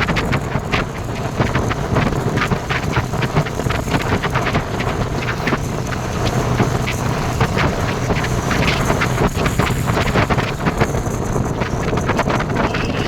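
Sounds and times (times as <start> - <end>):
motorcycle engine humming: 0.0 - 13.0
wind buffeting microphone: 0.0 - 13.0.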